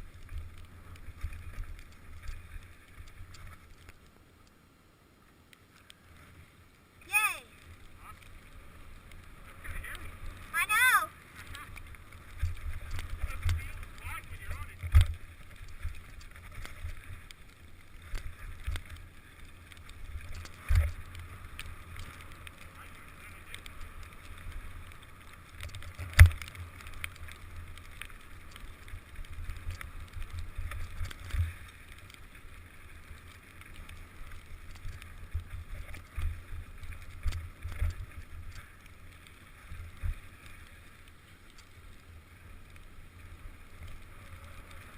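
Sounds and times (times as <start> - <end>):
wind and tyres rumbling: 0.0 - 44.9.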